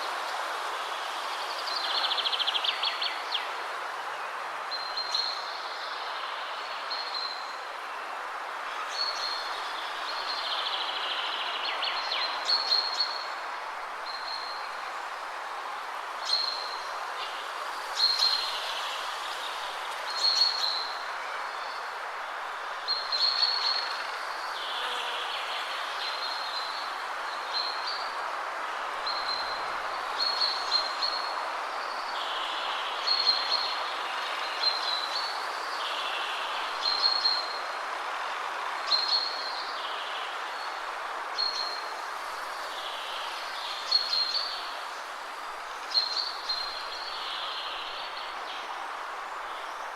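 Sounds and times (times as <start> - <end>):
wind rushing through trees: 0.0 - 49.9.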